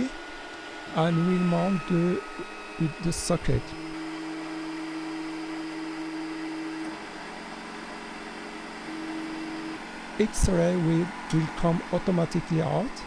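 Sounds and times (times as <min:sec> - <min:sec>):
held machine tone: 0:00.0 - 0:07.0, 0:08.8 - 0:13.0
machine humming: 0:00.0 - 0:13.0.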